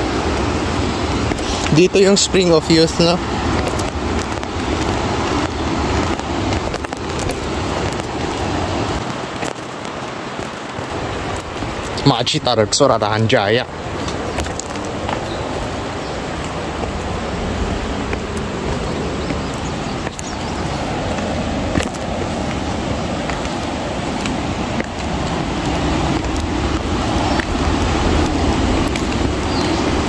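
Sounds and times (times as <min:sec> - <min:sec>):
footsteps on stone: 0:00.0 - 0:30.0
wind buffeting microphone: 0:00.0 - 0:30.0.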